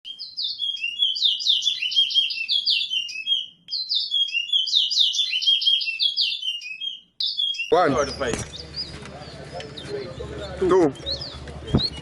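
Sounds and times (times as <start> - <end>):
finch singing whistled notes: 0.1 - 12.0.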